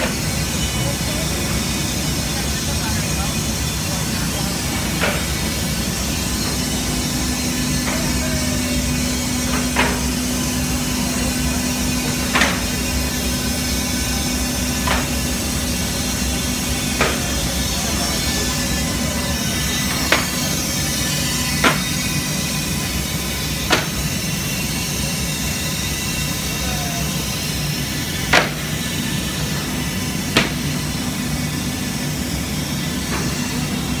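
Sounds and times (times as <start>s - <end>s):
sanding machine running: 0.1s - 34.0s.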